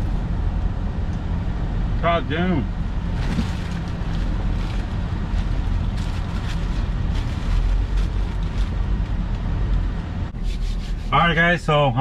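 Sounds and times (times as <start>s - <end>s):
road and engine rumble in van: 0.0s - 12.0s.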